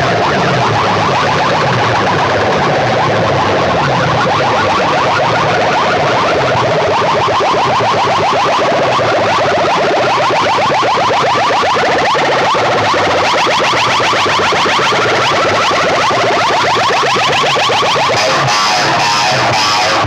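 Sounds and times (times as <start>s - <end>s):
distorted stuttering electronic track: 0.0s - 20.0s.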